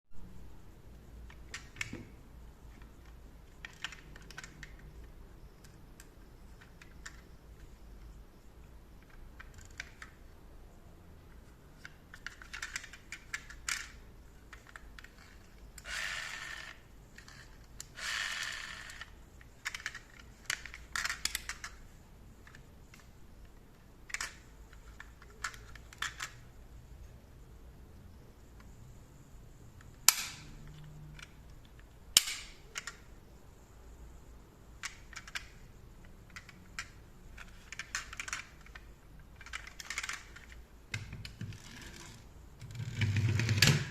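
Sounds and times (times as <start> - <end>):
plastic toy cars clicking: 1.3 - 7.8, 8.9 - 10.4, 11.3 - 26.5, 29.8 - 33.1, 34.8 - 43.9.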